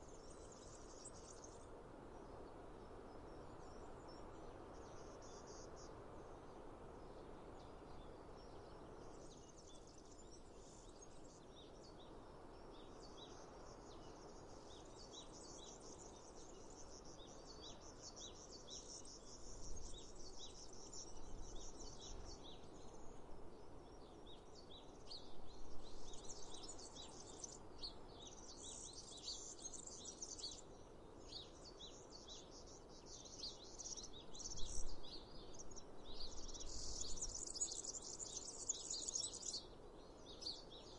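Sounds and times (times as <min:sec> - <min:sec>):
low outdoor hiss: 0:00.0 - 0:40.9
small birds chirping: 0:00.0 - 0:40.9.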